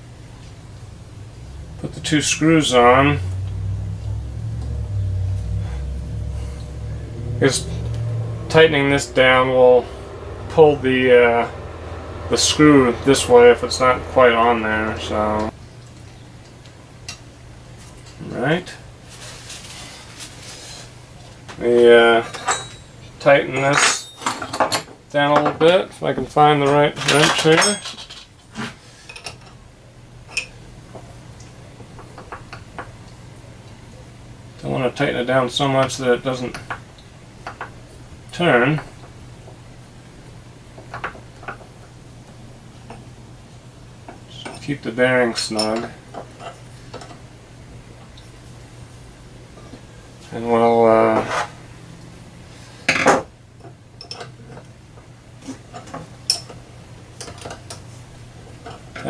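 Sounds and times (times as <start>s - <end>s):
steady low hum: 0.0s - 25.2s, 27.8s - 59.0s.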